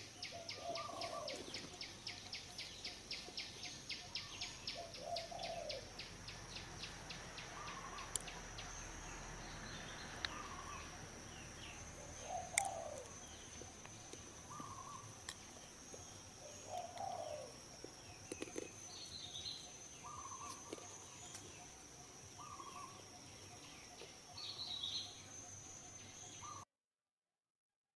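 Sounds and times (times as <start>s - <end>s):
birds calling: 0.0s - 26.6s
insect drone: 0.0s - 26.7s.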